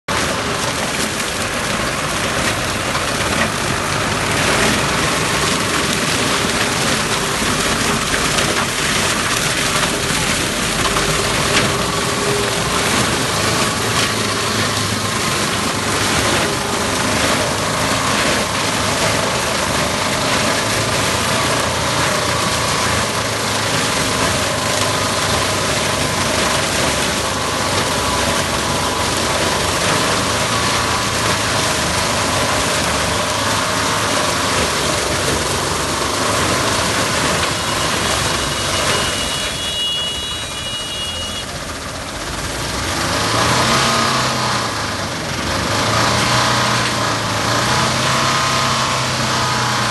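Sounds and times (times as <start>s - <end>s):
tractor engine running under load: 0.1s - 49.9s.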